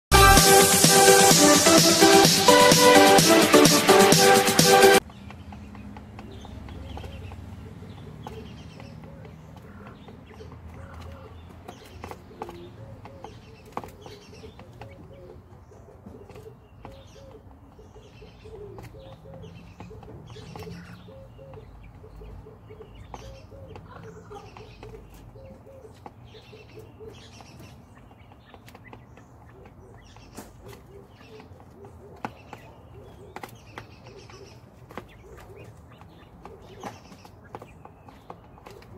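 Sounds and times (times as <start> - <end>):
quails chirping: 5.0 - 38.9.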